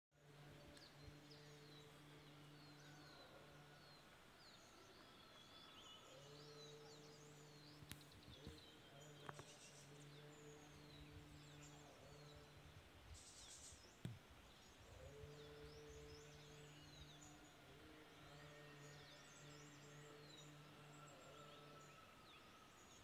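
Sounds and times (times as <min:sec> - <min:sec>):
birds chirping: 0:00.2 - 0:23.0
low chanting voice: 0:00.2 - 0:23.0.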